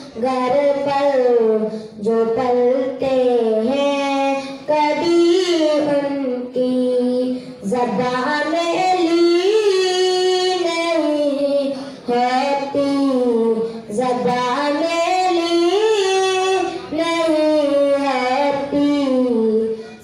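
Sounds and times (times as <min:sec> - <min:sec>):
boy singing unaccompanied: 0:00.0 - 0:20.0.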